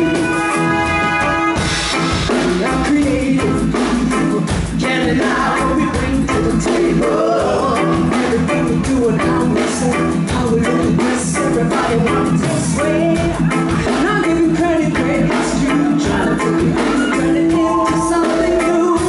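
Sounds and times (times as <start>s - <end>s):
reggae band playing: 0.0s - 19.0s
vocal group singing: 2.3s - 19.0s.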